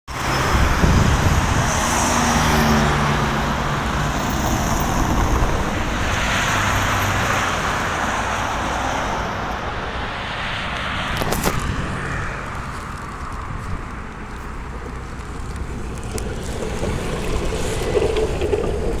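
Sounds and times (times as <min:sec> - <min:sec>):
cars passing close by: 0:00.1 - 0:19.0
engine hum: 0:00.1 - 0:19.0
tyre noise on asphalt: 0:00.1 - 0:19.0.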